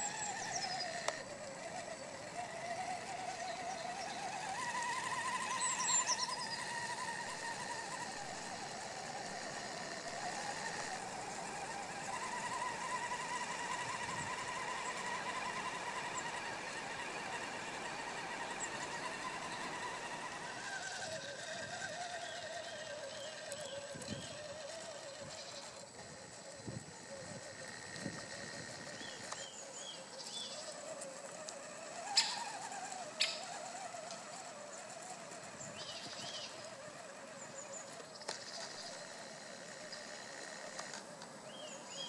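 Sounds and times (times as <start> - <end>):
rc truck motor whining: 0.0 - 42.0.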